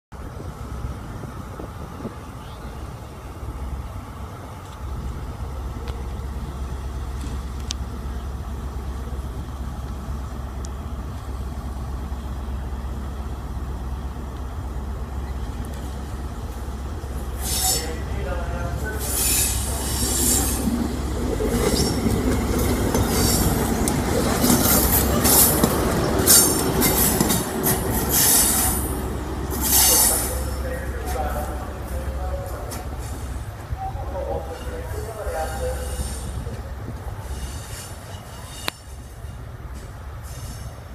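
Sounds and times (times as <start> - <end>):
diesel train engine rumble: 0.1 - 40.9.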